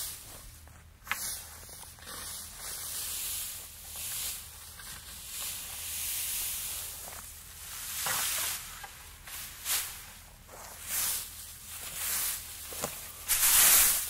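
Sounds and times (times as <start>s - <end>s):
high pulsing hiss: 2.4s - 14.0s.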